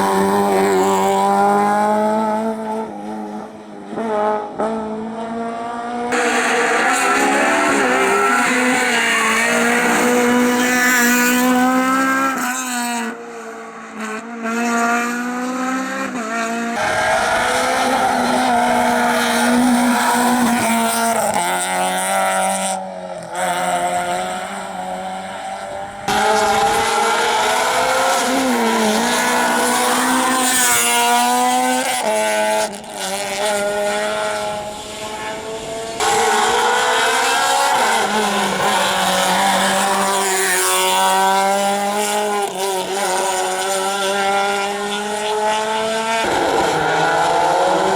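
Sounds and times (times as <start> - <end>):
rally cars revving past: 0.0 - 47.9.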